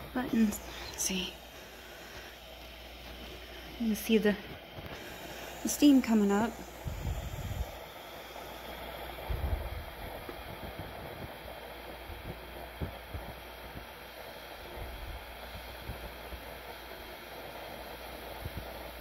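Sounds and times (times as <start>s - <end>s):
steam hissing from valve: 0.0s - 19.0s.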